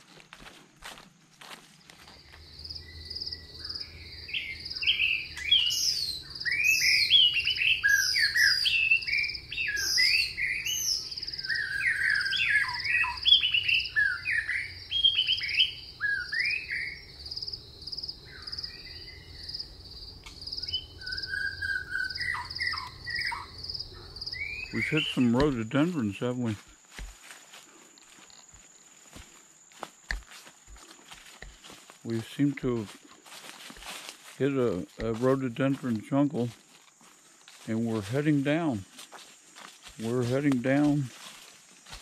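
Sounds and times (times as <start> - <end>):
songbirds chirping and calling: 0.8 - 42.0
pulsing insect trill: 2.0 - 37.6.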